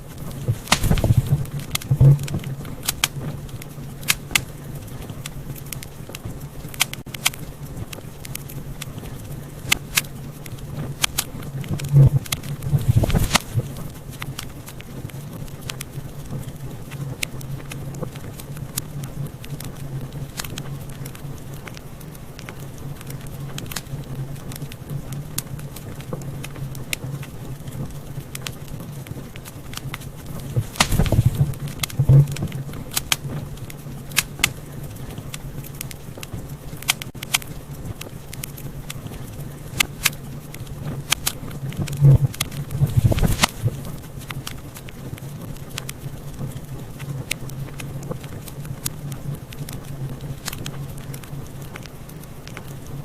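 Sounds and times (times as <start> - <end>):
low steady hum: 0.0 - 53.0
wood fire crackling: 0.0 - 53.0.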